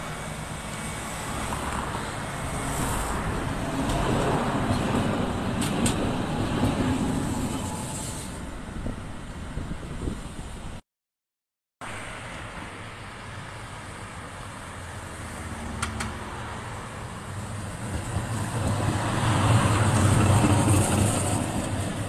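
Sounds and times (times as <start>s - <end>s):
cars passing: 0.0s - 10.6s, 11.8s - 22.0s
tram rumbling on rails: 0.0s - 10.8s, 11.9s - 22.0s.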